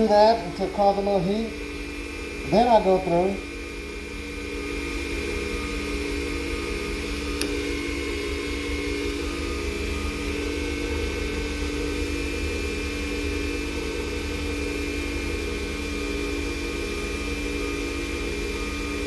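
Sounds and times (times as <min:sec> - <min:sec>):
lathe humming: 0:00.0 - 0:19.0.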